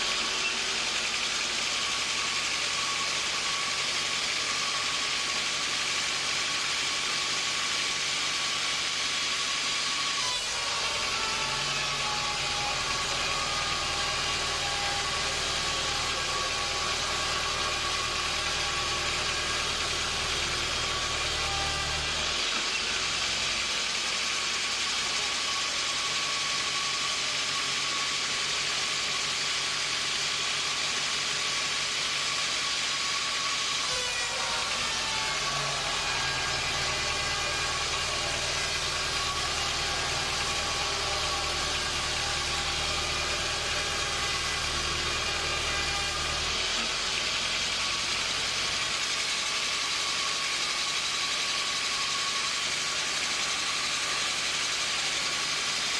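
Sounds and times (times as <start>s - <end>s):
sawmill machinery drone: 0.0s - 55.9s.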